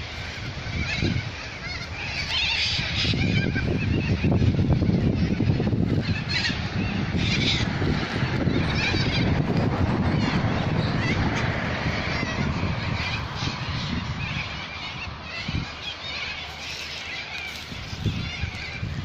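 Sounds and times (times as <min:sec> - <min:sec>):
many birds singing: 0:00.0 - 0:19.0.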